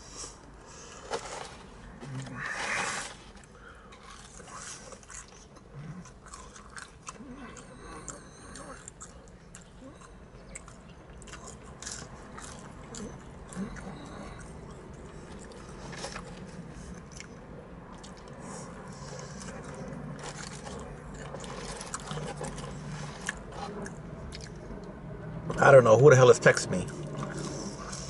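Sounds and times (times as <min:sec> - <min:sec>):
person chewing crunchy food: 0:01.9 - 0:25.0, 0:26.9 - 0:28.0.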